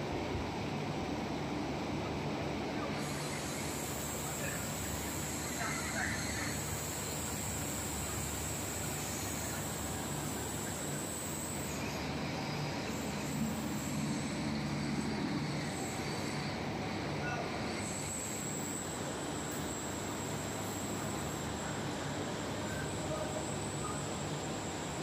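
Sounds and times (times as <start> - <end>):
machinery hum and hiss: 0.0 - 25.0
thin high-pitched whine: 2.8 - 25.0.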